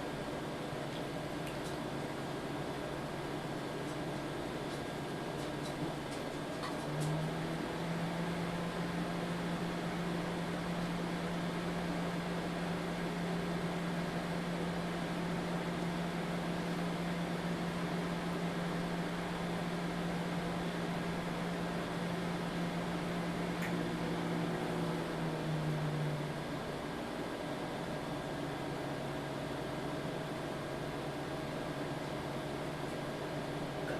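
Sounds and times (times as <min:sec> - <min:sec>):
microwave deep hum: 0:00.0 - 0:33.9
microwave fan whirring: 0:00.0 - 0:33.9.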